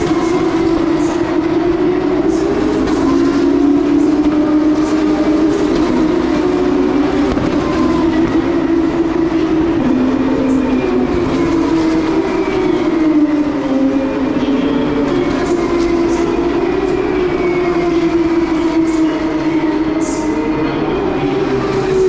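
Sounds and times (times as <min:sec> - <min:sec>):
distant racing car engines droning: 0:00.0 - 0:22.0.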